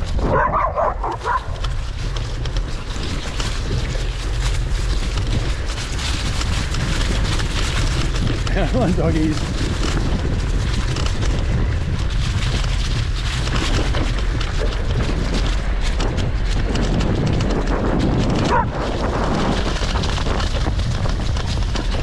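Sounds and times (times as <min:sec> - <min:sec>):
bicycle knocking and rattling: 0:00.0 - 0:22.0
wind buffeting microphone: 0:00.0 - 0:22.0.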